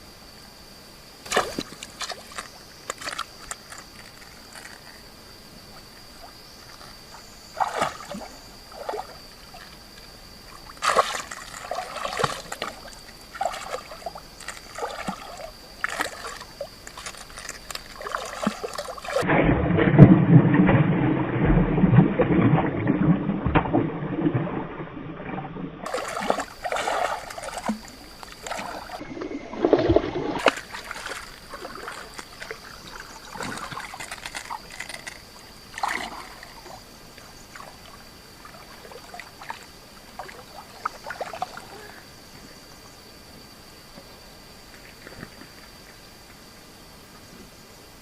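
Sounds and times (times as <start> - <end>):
water sloshing and splashing: 1.2 - 42.5.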